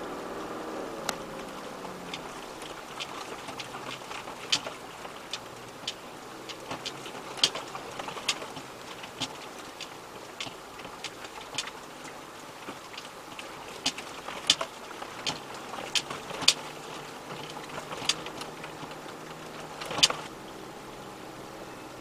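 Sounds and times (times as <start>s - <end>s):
tyres crawling over gravel: 0.0s - 22.0s.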